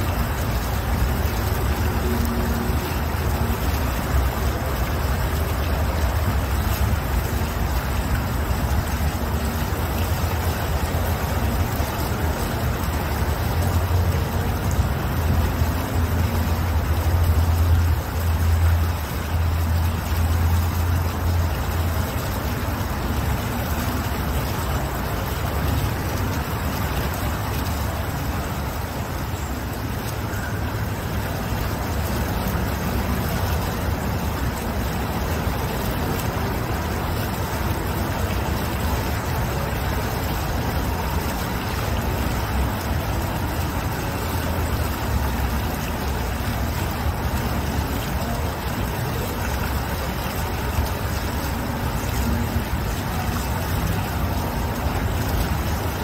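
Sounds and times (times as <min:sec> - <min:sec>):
fountain splashing into pool: 0:00.0 - 0:56.0.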